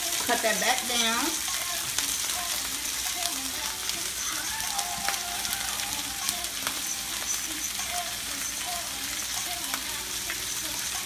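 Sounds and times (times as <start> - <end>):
potatoes sizzling in a skillet: 0.0 - 11.0.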